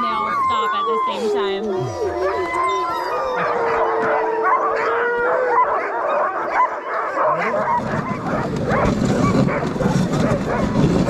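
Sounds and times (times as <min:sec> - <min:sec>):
sled dogs howling and yipping: 0:00.0 - 0:11.0.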